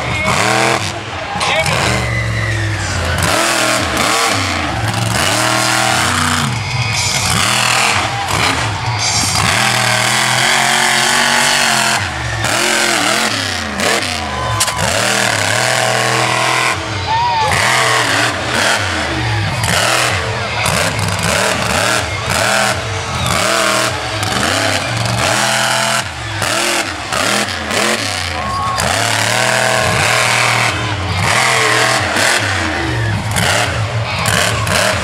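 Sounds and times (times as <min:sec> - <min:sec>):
monster truck engine revving: 0:00.0 - 0:35.0.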